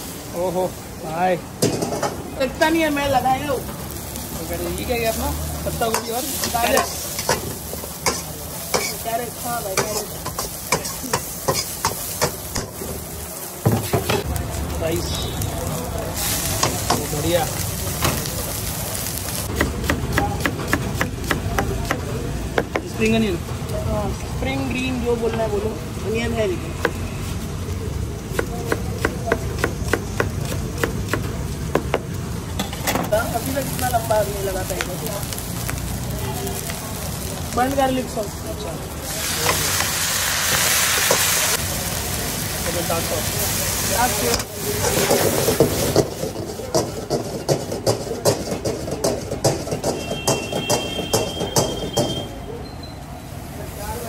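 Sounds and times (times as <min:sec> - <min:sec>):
vegetables sizzling in wok: 0:00.0 - 0:52.2, 0:53.0 - 0:54.0.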